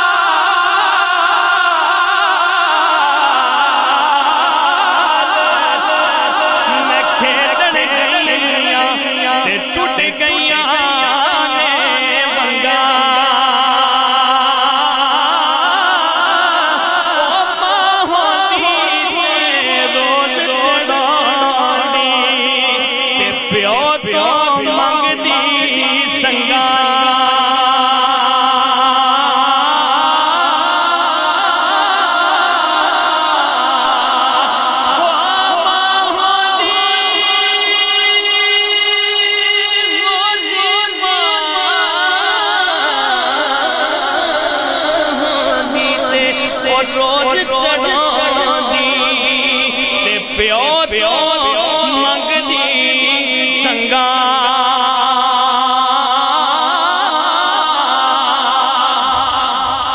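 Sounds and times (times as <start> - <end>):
man singing into a microphone: 0.0 - 59.9.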